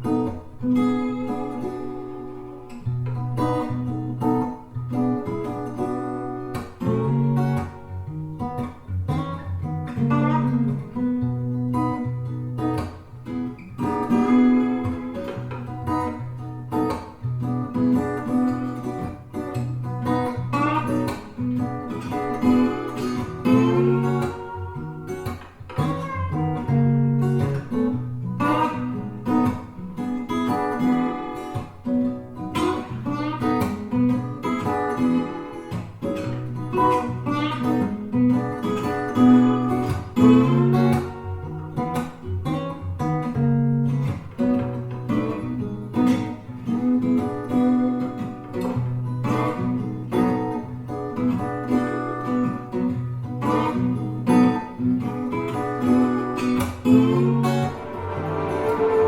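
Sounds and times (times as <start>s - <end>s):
acoustic guitar music through speakers: 0.0s - 59.0s.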